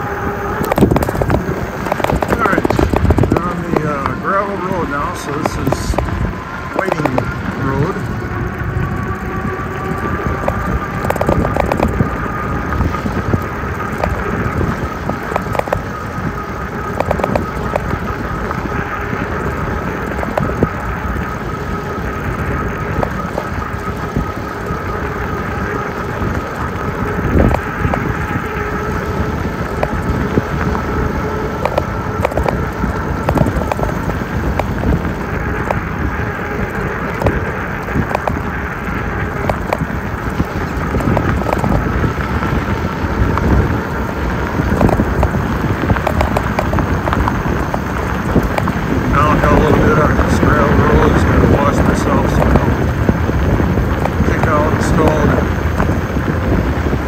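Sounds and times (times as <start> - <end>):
electric motor whine: 0.0 - 57.0
tyres crunching over gravel: 0.0 - 57.0.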